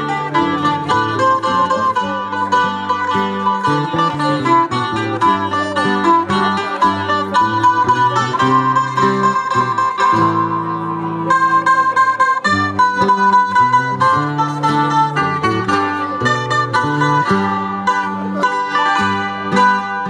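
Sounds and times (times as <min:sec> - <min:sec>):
acoustic guitars playing folk music: 0:00.0 - 0:20.0.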